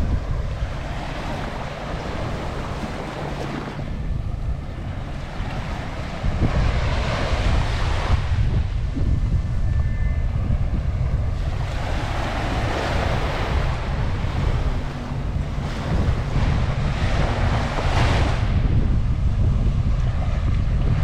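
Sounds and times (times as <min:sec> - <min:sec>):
surf washing on a beach: 0:00.0 - 0:21.0
wind buffeting the microphone: 0:00.0 - 0:21.0.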